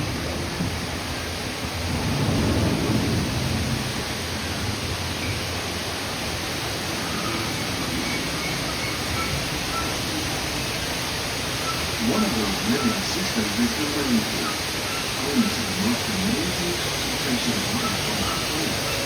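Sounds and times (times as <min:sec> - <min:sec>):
rushing water hiss: 0:00.0 - 0:19.0.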